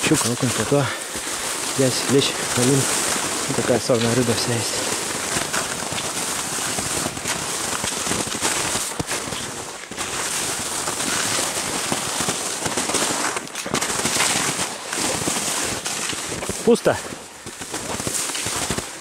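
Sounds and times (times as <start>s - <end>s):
footsteps crunching through snow: 0.0s - 19.0s.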